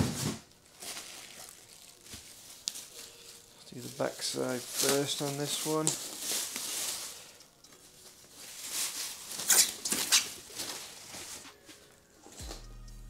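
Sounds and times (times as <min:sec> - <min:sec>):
plastic sheet crinkling and rustling: 0:00.0 - 0:12.4.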